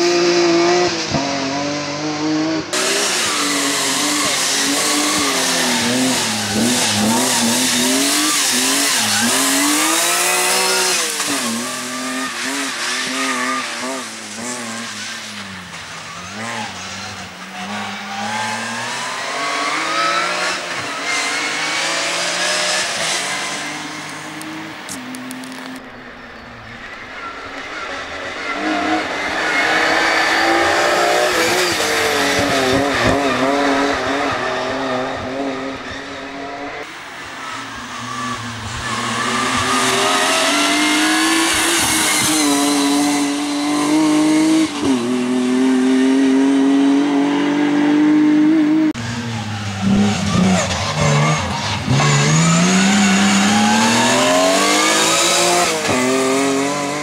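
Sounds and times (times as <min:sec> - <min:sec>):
rally car engine revving: 0:00.0 - 0:25.8, 0:27.6 - 0:57.0.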